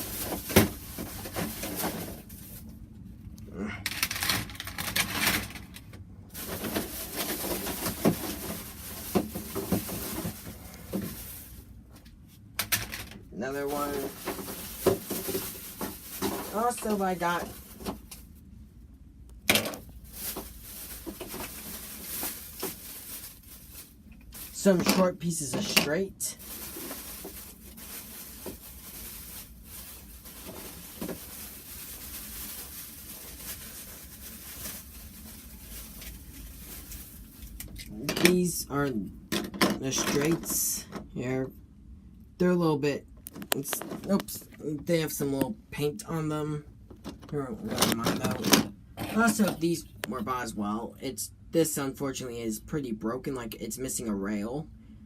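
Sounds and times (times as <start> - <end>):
low rumble and hiss: 0.0 - 55.0.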